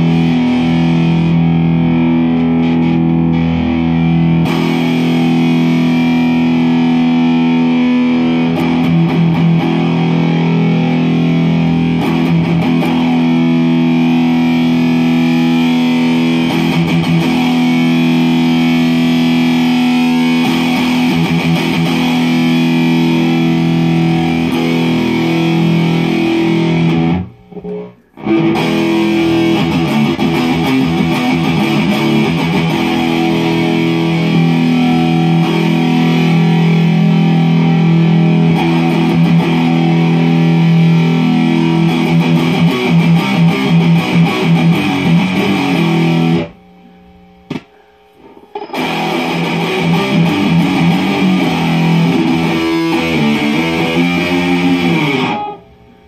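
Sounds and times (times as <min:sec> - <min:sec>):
distorted electric guitar chords: 0:00.0 - 0:56.0.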